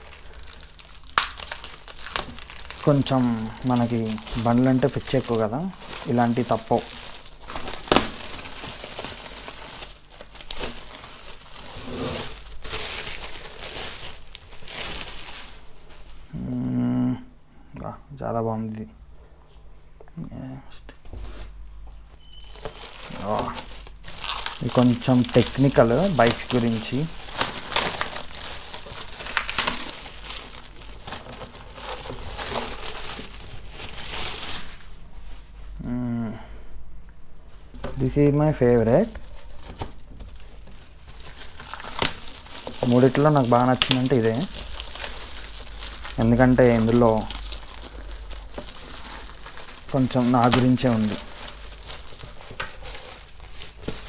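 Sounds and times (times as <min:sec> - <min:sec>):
sharp wrapping cracks: 0:00.0 - 0:16.1, 0:22.4 - 0:34.9, 0:38.9 - 0:54.0
packaging crinkling and rustling: 0:00.0 - 0:16.5, 0:21.1 - 0:35.8, 0:37.6 - 0:54.0.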